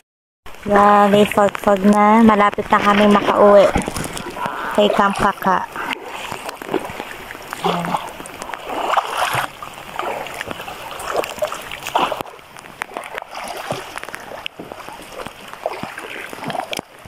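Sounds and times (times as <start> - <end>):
water splashing and sloshing: 0.5 - 17.0.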